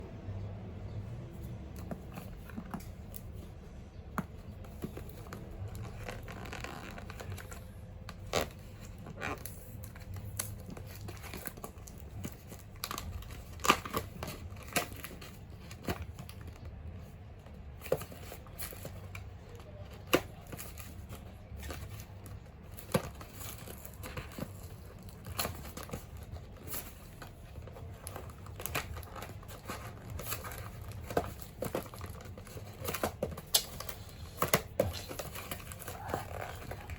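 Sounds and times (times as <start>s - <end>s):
plastic and cardboard crinkling: 0.8s - 36.9s.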